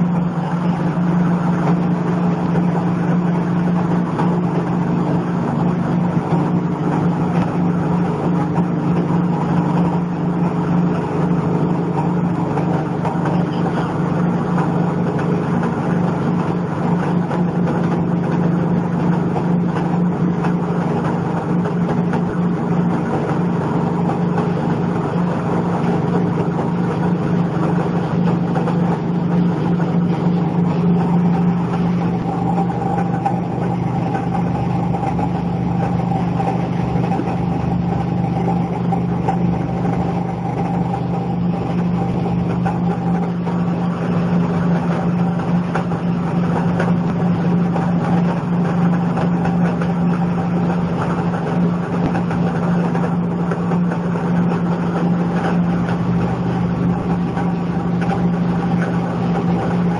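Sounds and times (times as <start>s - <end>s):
machine drone with low hum: 0.0s - 59.9s.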